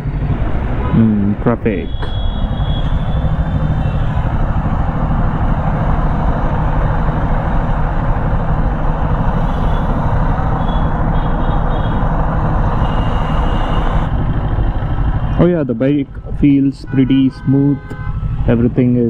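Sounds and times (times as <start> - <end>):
loud wind noise: 0.0 - 16.2
motorcycle engine hum: 0.0 - 19.0
road noise: 0.0 - 19.0.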